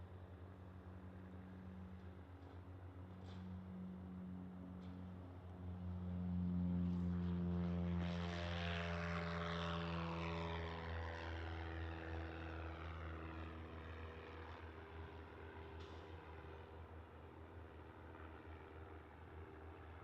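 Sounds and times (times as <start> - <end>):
propeller airplane drone: 0.0 - 20.0.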